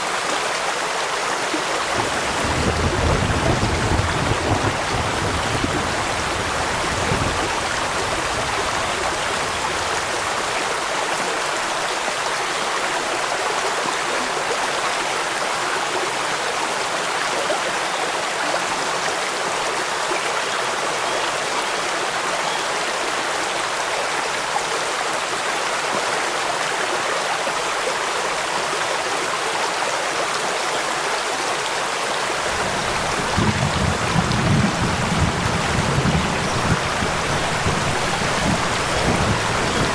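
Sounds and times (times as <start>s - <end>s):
rushing stream water: 0.0s - 39.9s
steady rain: 0.0s - 39.9s.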